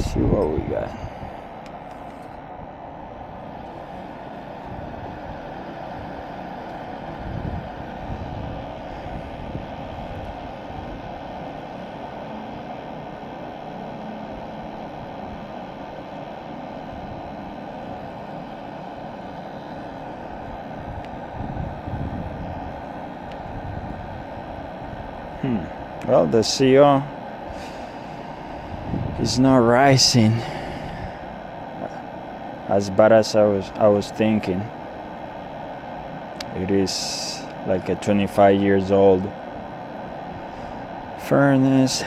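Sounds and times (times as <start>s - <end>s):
furnace burner whooshing drone: 0.0s - 42.0s.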